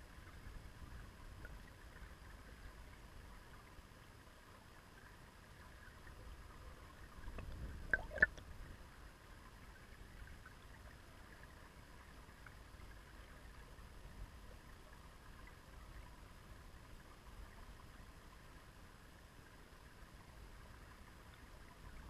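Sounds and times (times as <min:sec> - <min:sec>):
underwater river rush: 0:00.0 - 0:22.0.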